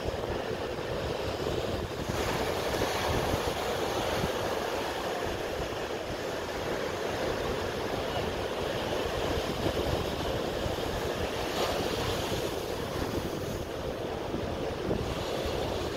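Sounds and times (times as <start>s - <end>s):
ocean waves breaking on beach: 0.0s - 15.9s.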